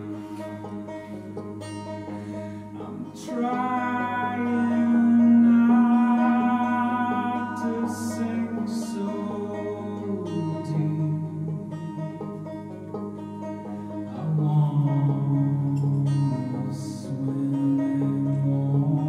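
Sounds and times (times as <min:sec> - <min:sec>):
man singing a folk song: 0:00.0 - 0:19.0
plucked banjo: 0:00.0 - 0:19.0.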